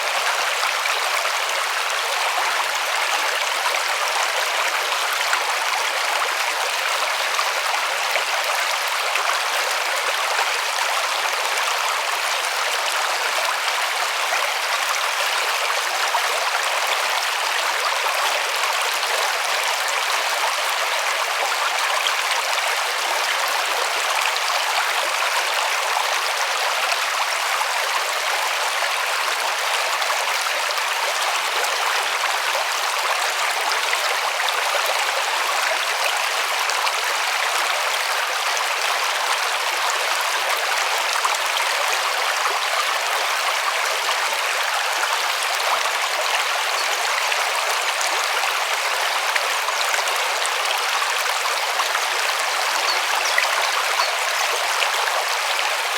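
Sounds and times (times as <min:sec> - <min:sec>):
river water flowing over stones: 0:00.0 - 0:55.9.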